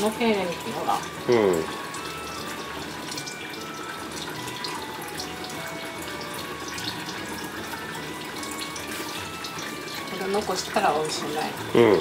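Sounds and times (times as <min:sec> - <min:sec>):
quiet background melody: 0:00.0 - 0:12.0.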